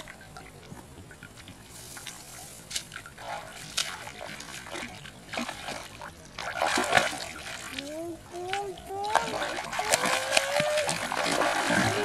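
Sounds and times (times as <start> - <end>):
fish splashing in water: 1.2 - 12.0.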